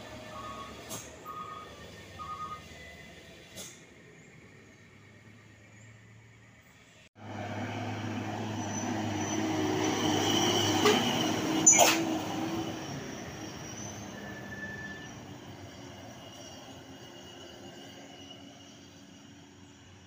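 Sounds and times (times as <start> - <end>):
truck engine and tyre noise: 0.0 - 20.0.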